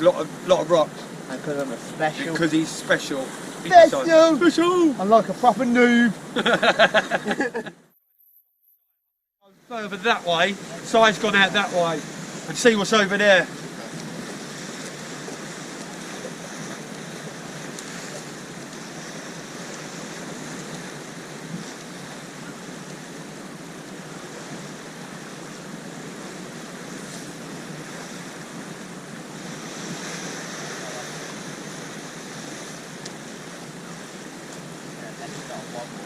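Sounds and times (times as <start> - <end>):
sea waves washing: 0.0 - 7.9, 9.5 - 36.0
wind: 0.0 - 8.8, 9.4 - 36.0.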